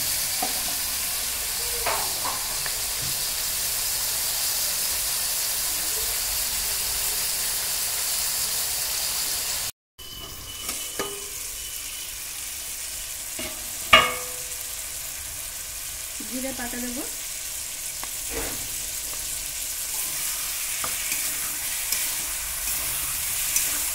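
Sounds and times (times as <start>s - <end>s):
vegetables sizzling in oil: 0.0s - 23.9s.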